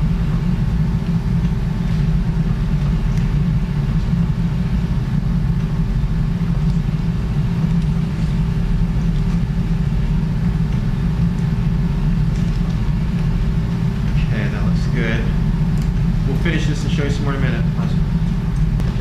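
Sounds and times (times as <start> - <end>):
low rumbling equipment hum: 0.0 - 19.0.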